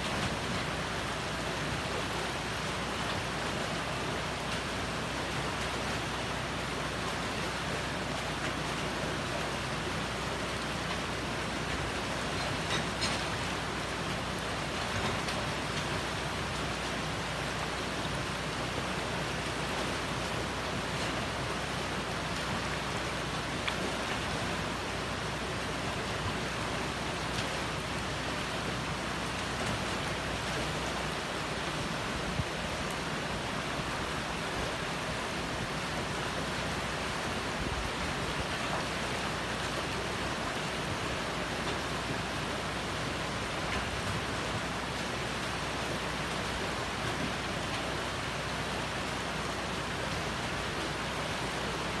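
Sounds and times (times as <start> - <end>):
shallow river water rushing: 0.0 - 52.0.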